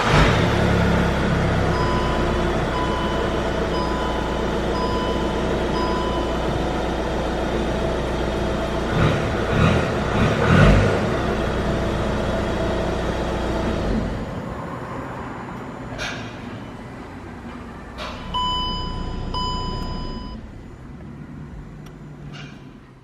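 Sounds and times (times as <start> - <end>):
diesel engine idling: 0.0 - 23.0
engine throttle blips: 0.0 - 23.0.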